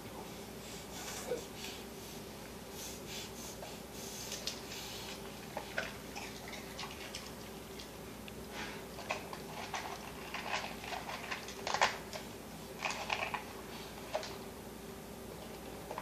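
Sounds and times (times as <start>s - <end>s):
faint appliance hum: 0.0s - 16.0s.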